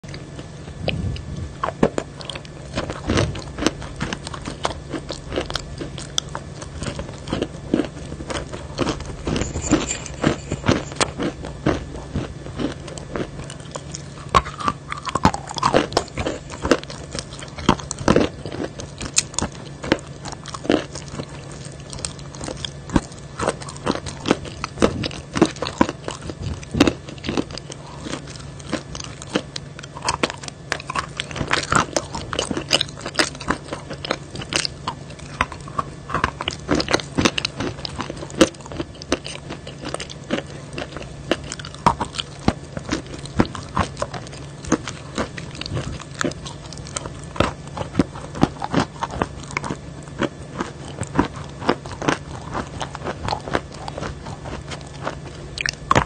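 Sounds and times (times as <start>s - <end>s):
chalk crunching and chewing: 0.0s - 56.0s
low steady hum: 0.0s - 56.0s.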